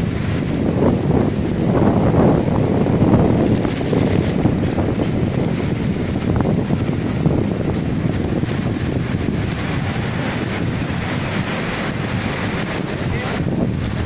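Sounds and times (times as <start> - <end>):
flowing water stream: 0.0 - 14.0
wind buffeting microphone: 0.0 - 14.0.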